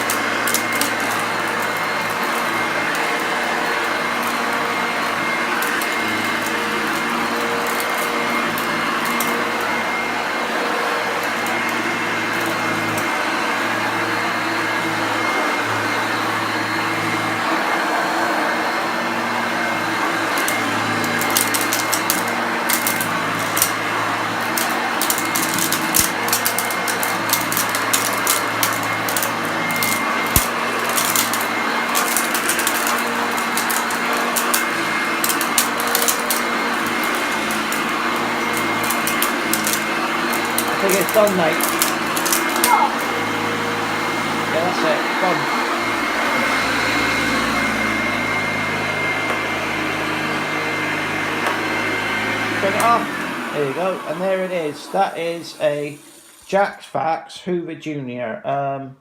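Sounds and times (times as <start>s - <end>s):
vacuum cleaner humming: 0.0s - 57.1s.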